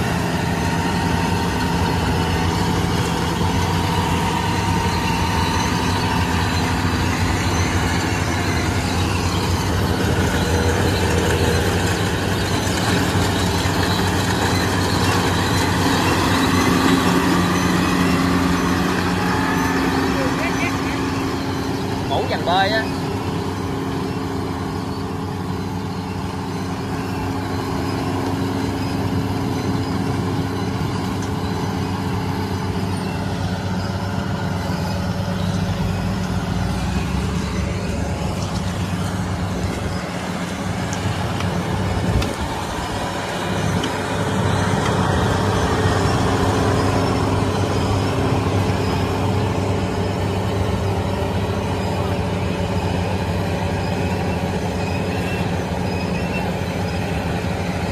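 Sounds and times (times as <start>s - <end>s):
combine harvester diesel engine: 0.0s - 57.9s.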